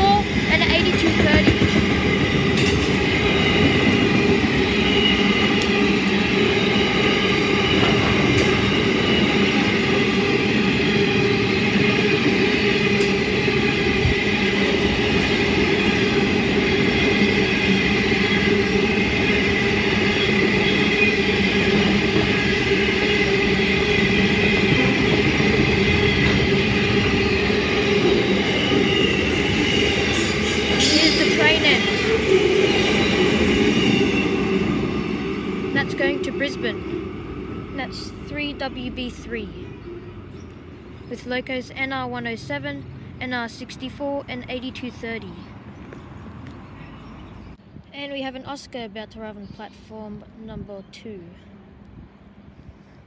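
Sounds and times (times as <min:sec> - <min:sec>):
freight wagons wheels on rail: 0:00.0 - 0:47.8.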